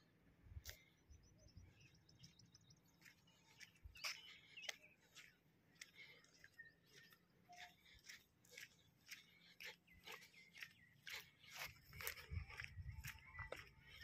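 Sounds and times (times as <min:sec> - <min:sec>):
faint bird chirps and trills: 0:00.5 - 0:14.0.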